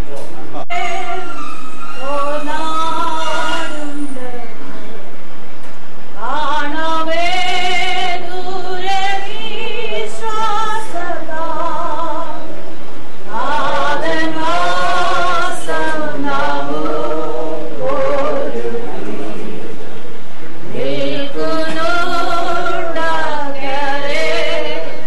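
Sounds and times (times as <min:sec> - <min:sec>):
voices singing a slow hymn: 0:00.7 - 0:05.0, 0:06.1 - 0:25.0.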